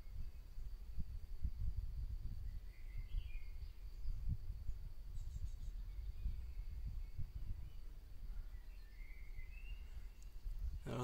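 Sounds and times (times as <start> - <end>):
faint bird chirps: 0.0 - 0.8, 2.2 - 11.0
wind buffeting microphone: 0.0 - 11.0.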